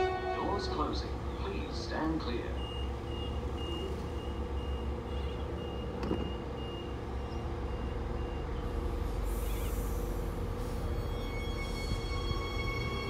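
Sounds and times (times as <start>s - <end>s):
train humming: 0.0s - 7.2s, 8.4s - 13.0s.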